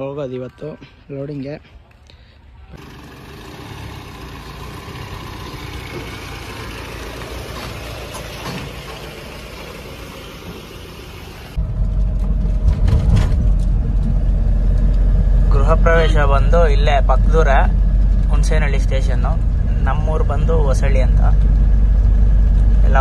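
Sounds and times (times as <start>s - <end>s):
diesel engine idling: 2.7s - 23.0s
engine and tyres rumbling while driving: 2.7s - 23.0s.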